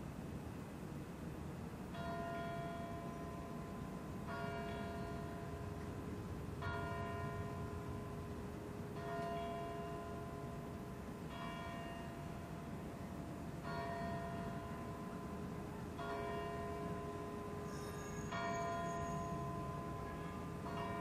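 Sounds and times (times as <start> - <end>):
church bell tolling: 1.9 - 21.0.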